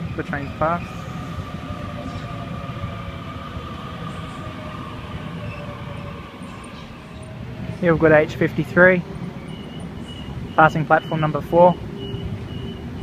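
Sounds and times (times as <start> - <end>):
electric train whine: 0.0 - 13.0
wheels rumbling on rails: 0.0 - 13.0.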